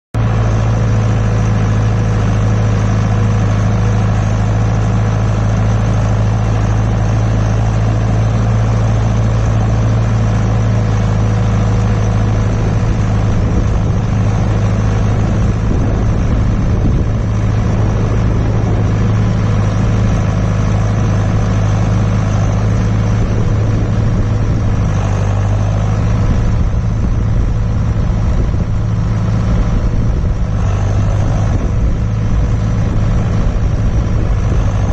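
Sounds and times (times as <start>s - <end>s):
tractor diesel engine droning: 0.2s - 34.9s.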